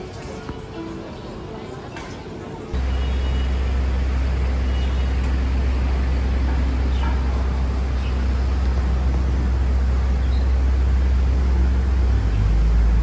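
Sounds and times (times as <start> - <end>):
road traffic rumble: 2.2 - 13.0.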